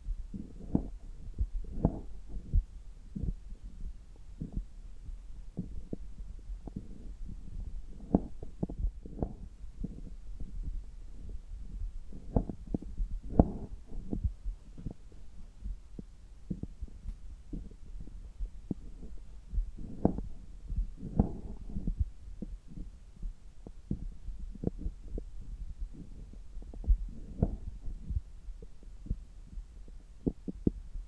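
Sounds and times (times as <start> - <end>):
thumps and rubbing on abdomen: 0.3 - 29.6.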